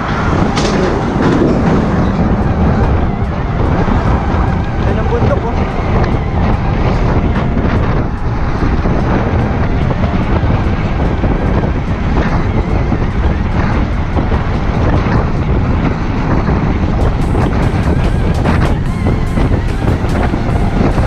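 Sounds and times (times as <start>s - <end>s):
road and tyre noise: 0.0s - 21.0s
wind buffeting microphone: 0.0s - 21.0s.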